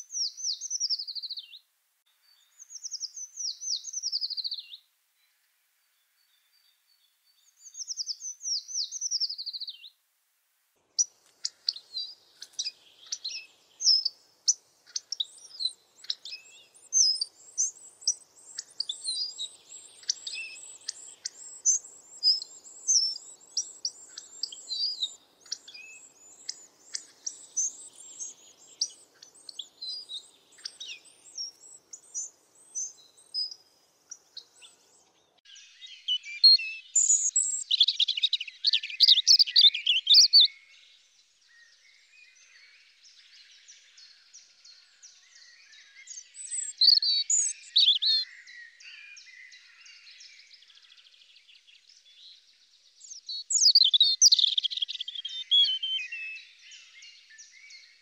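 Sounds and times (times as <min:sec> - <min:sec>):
songbirds singing: 0:00.0 - 0:10.0, 0:10.8 - 0:58.0.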